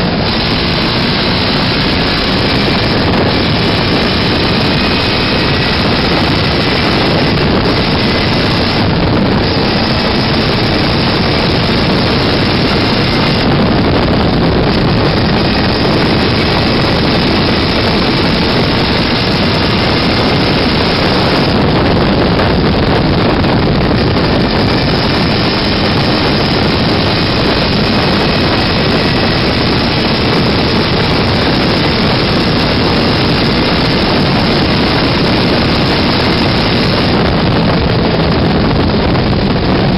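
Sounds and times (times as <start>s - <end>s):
buggy engine running: 0.0s - 39.9s
wind rushing on microphone: 0.0s - 39.9s.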